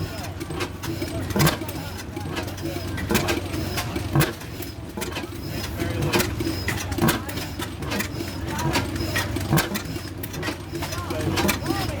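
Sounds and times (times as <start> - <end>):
hit-and-miss engine running: 0.0 - 12.0
sharp engine knocks and clicks: 0.0 - 12.0.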